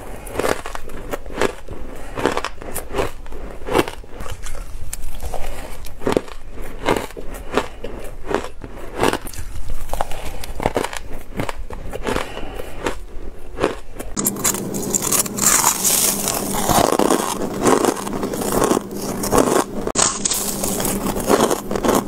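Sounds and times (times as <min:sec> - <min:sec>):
shaved ice crunching in teeth: 0:00.0 - 0:13.0, 0:13.6 - 0:22.0.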